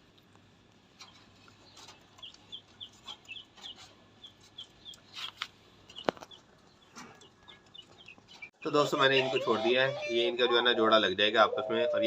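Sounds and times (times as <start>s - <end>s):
chicks peeping: 0.9s - 12.0s.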